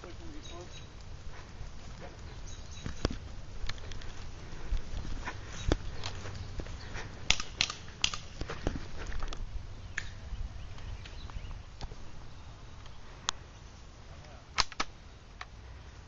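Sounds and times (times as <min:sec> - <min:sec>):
footsteps on grass: 0:00.0 - 0:14.1.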